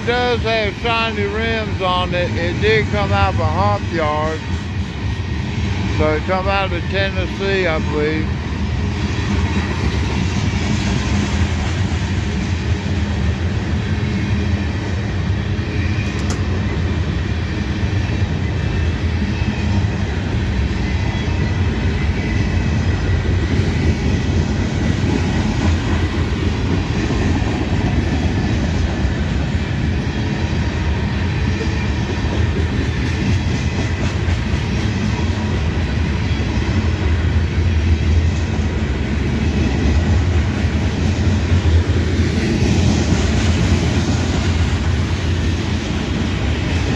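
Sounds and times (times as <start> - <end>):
freight train rumbling on rails: 0.0 - 46.9.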